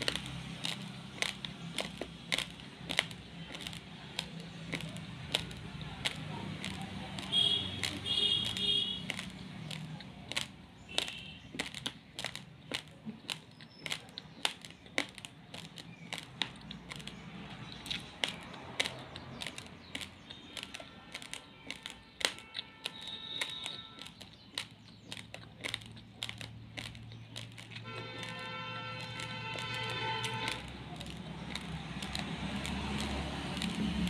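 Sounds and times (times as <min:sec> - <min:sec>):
rice grains crunching when chewed: 0:00.0 - 0:34.0.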